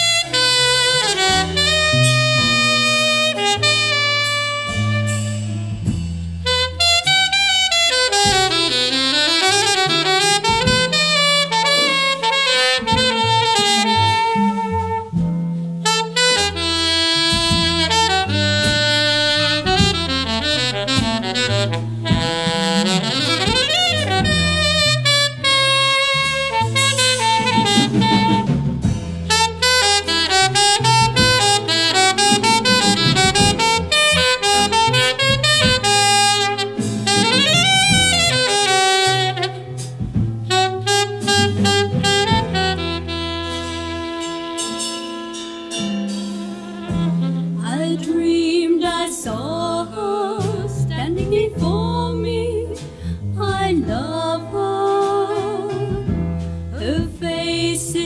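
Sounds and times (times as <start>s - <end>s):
walking bass line: 0.0s - 44.6s, 46.4s - 48.7s, 49.3s - 58.0s
saxophone melody: 0.0s - 48.6s.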